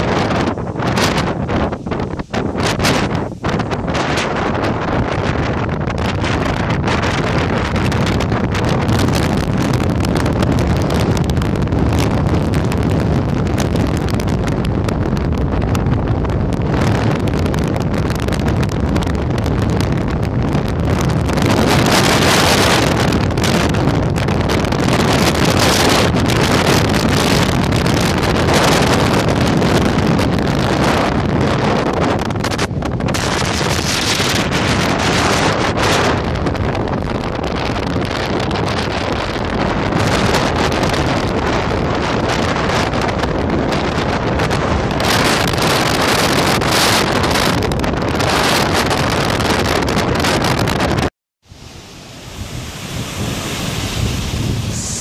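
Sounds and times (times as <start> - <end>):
strong wind on microphone: 0.0 - 55.0.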